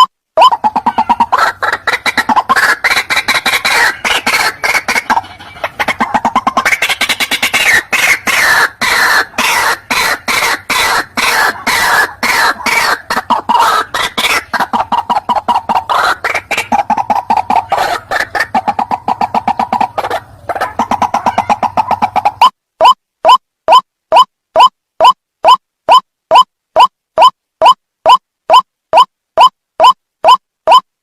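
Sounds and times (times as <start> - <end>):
waterhen calling: 0.0 - 26.4.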